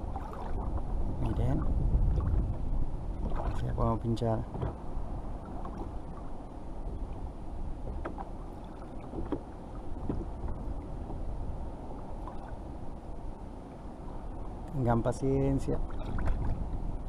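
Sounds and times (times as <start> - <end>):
small waves lapping: 0.0 - 14.8, 15.4 - 17.0
wind on microphone: 0.0 - 17.0.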